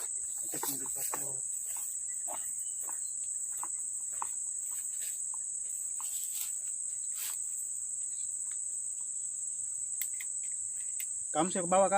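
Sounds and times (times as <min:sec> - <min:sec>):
insects chorus: 0:00.0 - 0:11.9.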